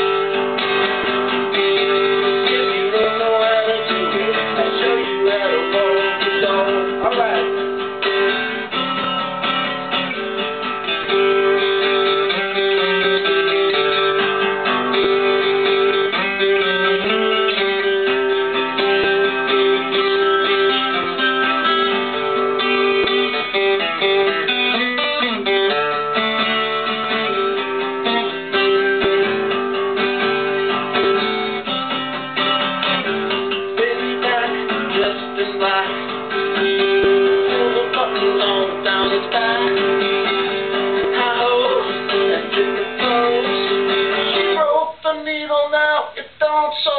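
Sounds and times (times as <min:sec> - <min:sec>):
acoustic guitar blues: 0:00.0 - 0:46.9.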